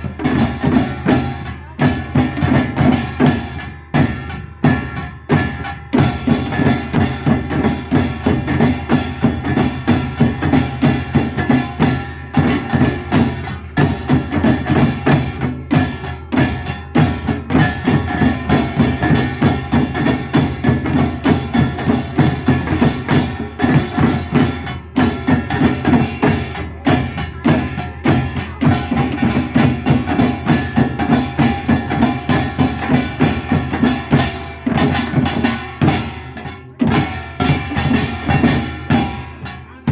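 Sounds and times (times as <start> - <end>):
percussion band drumming: 0.0 - 39.9.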